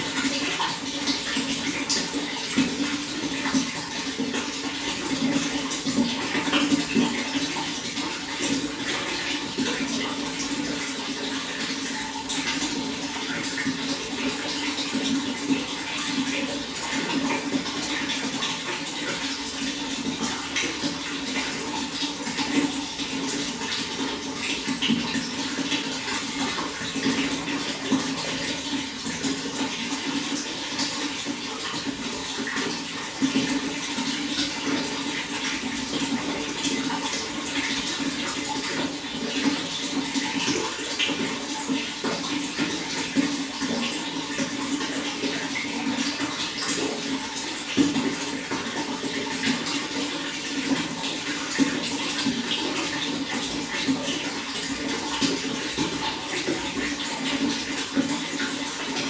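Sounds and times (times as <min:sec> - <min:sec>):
running water splashing: 0:00.0 - 0:59.0.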